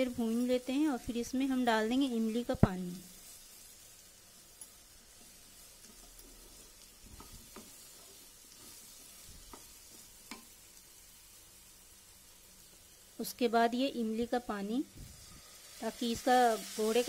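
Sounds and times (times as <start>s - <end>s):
pumpkin sizzling in oil: 0.0s - 17.0s.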